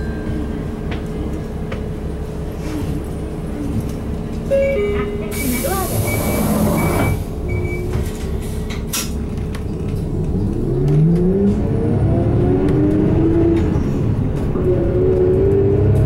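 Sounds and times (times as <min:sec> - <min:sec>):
bus engine accelerating: 0:00.0 - 0:16.0.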